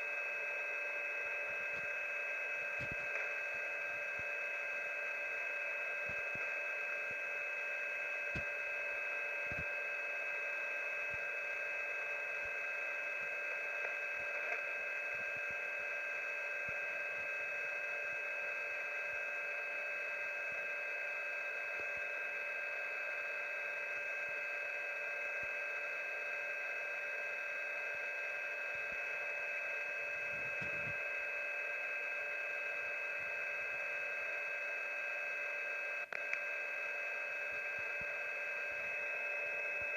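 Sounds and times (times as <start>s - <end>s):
radio static hiss: 0.0s - 39.9s
steady radio tones: 0.0s - 39.9s.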